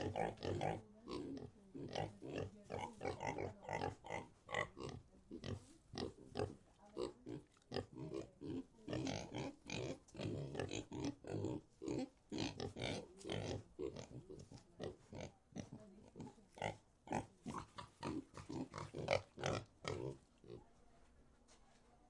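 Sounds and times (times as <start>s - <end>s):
pigs grunting and oinking: 0.0s - 20.6s.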